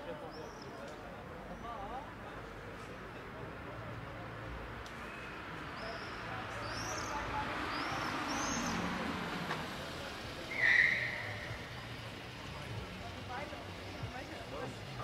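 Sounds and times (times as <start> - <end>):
car driving slowly: 0.4 - 15.0.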